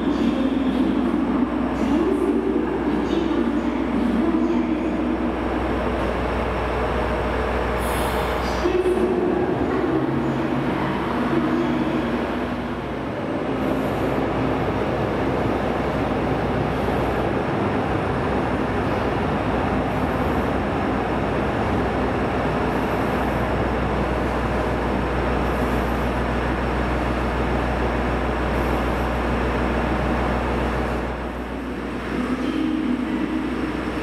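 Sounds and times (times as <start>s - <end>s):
moving train rumble: 0.0s - 34.0s.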